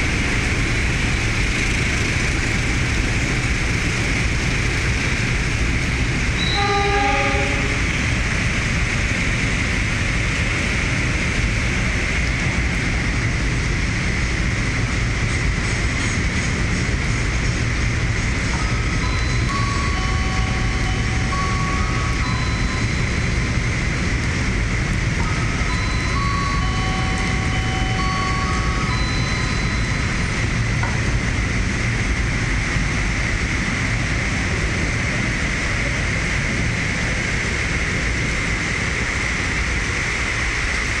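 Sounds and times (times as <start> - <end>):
train wheels roaring on rails: 0.0 - 41.0.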